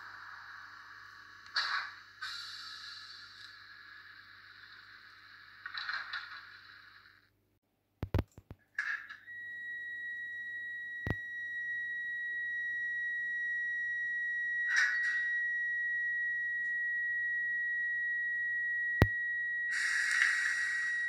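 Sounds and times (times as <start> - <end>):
high-pitched electric whine: 0.0 - 7.2, 8.8 - 21.0.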